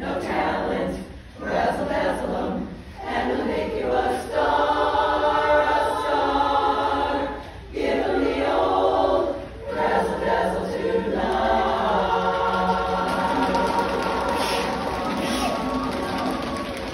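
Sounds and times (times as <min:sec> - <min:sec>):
women's chorus singing in harmony: 0:00.0 - 0:16.9.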